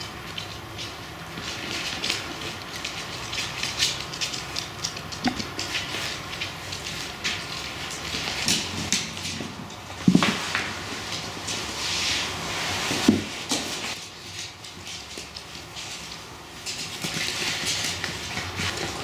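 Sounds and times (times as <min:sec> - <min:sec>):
puppy claws clicking on floor: 0:00.0 - 0:11.6, 0:13.1 - 0:19.0.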